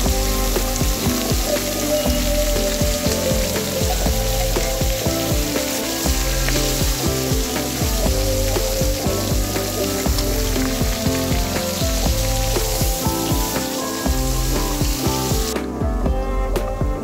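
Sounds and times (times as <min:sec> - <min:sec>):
fish sizzling in oil: 0:00.0 - 0:15.7.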